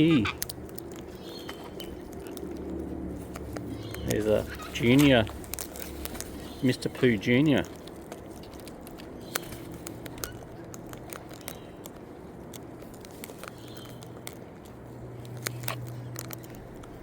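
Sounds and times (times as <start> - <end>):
birds pecking and cracking seed: 0.0 - 17.0.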